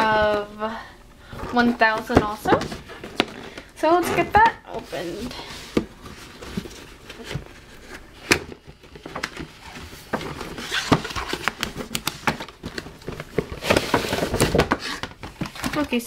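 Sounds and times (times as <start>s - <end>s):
cardboard rustling: 1.2s - 16.0s.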